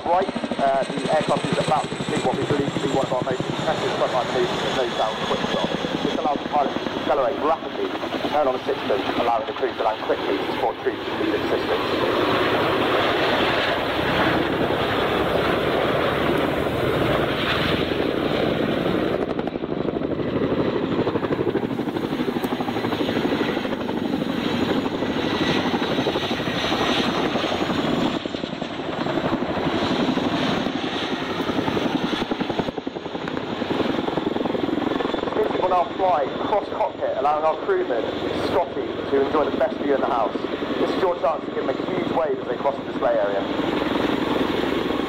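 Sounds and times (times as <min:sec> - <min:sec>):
helicopter rotors chopping: 0:00.0 - 0:45.0.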